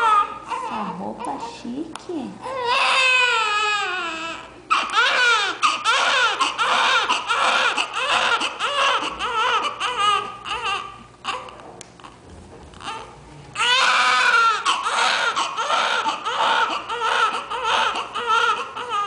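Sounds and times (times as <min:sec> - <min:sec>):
newborn baby crying: 0:00.0 - 0:01.3, 0:02.4 - 0:12.2, 0:12.8 - 0:19.0.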